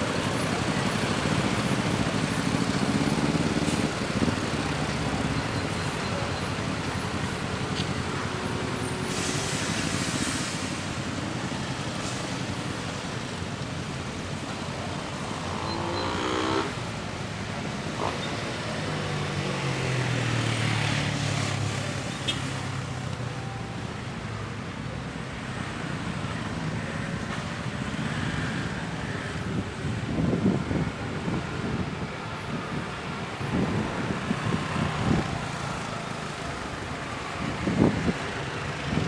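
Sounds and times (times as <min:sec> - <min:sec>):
vehicle engines in traffic: 0:00.0 - 0:39.0.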